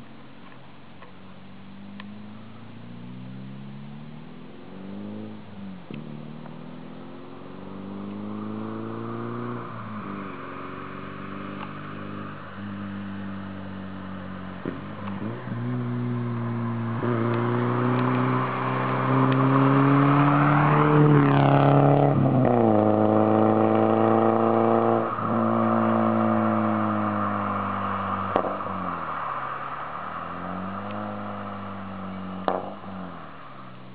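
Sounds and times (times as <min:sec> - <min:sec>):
car engine pulling under load: 0:00.0 - 0:33.9.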